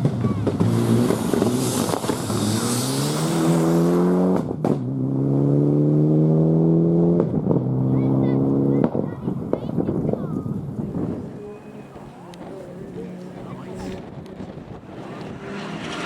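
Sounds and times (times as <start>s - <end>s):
rally car engine accelerating: 0.0s - 9.0s, 11.7s - 16.0s.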